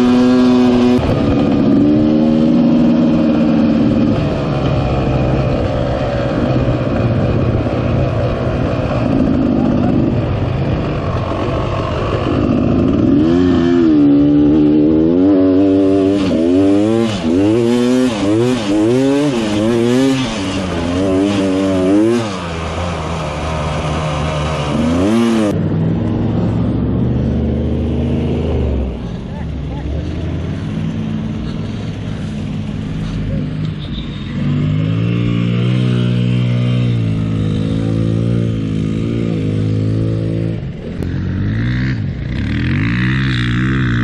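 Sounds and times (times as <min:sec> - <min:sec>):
dirt bike engine revving: 0:00.0 - 0:25.7, 0:33.9 - 0:44.0.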